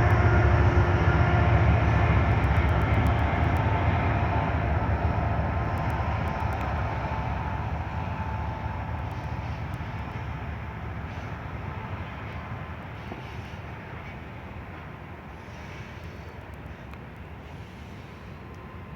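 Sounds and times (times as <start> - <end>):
diesel freight train passing: 0.0 - 18.9.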